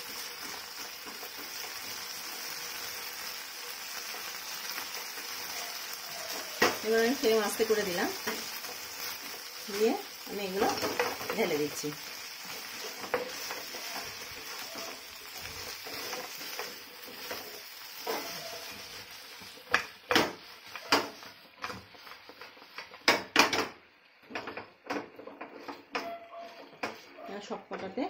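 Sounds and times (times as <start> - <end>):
chicken sizzling in sauce: 0.0 - 23.4
spatula scraping and knocking pan: 4.0 - 28.0.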